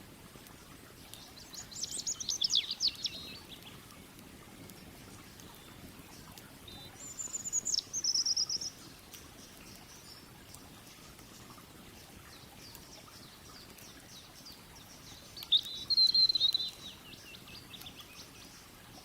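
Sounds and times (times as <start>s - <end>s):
songbird singing: 1.0s - 19.0s.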